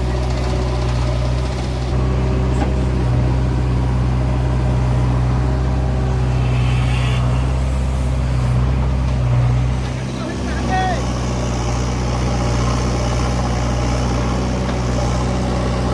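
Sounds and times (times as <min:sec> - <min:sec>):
motor engine humming: 0:00.0 - 0:15.9.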